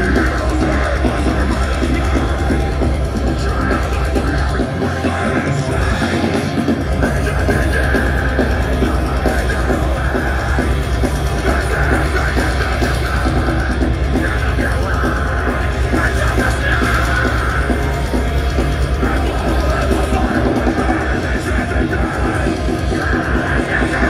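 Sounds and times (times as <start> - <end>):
bass guitar: 0.0 - 24.0
distorted guitars: 0.0 - 24.0
drums: 0.0 - 24.0.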